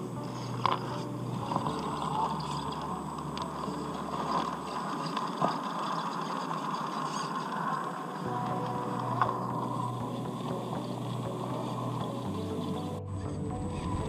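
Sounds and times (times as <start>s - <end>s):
toy car electric motor whining: 0.0s - 13.0s.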